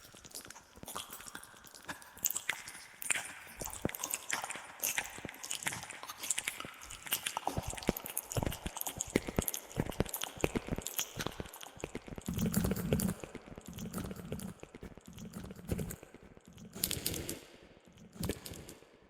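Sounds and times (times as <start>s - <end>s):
wet mouth clicks and smacks: 0.2s - 18.8s.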